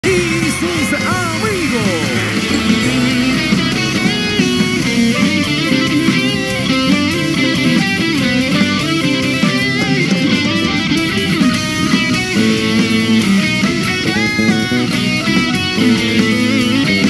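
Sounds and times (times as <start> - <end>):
bass guitar: 0.0 - 17.0
electric guitar bending notes: 0.2 - 17.0.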